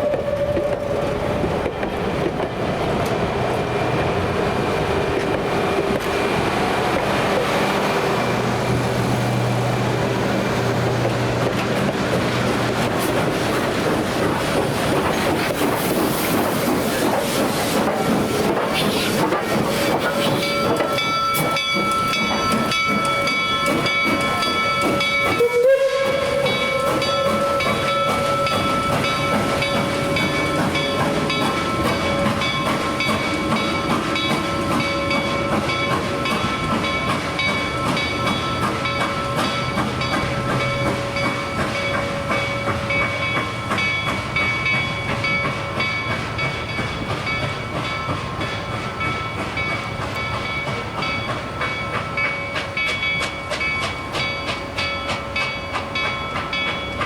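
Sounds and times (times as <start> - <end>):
high train squeal: 0.0 - 1.7, 5.2 - 57.0
low train rumble: 0.0 - 57.0
wheels clicking on rails: 0.0 - 57.0.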